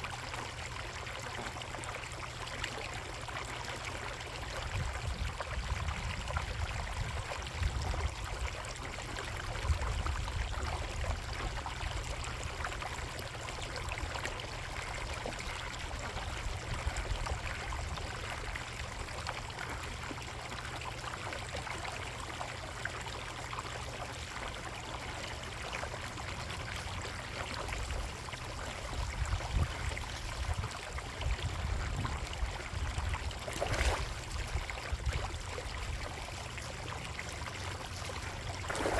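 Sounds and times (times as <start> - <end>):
pond water trickling and splashing: 0.0 - 38.9.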